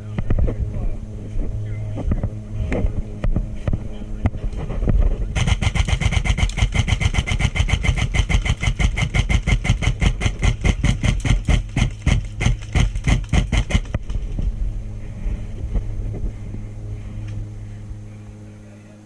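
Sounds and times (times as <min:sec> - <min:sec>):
engine chugging: 0:00.0 - 0:19.0
steady low hum: 0:00.0 - 0:19.0.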